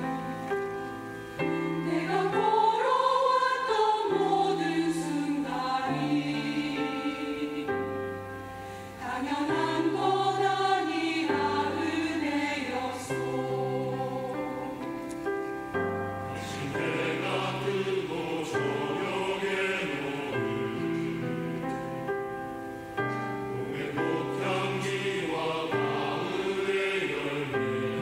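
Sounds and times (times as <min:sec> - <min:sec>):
choir singing a hymn: 0:00.0 - 0:28.0.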